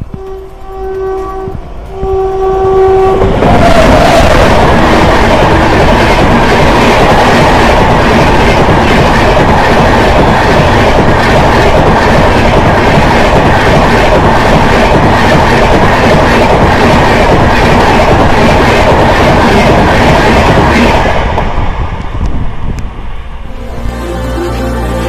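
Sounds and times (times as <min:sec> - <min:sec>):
train wheels rolling on rail: 0:00.0 - 0:23.5.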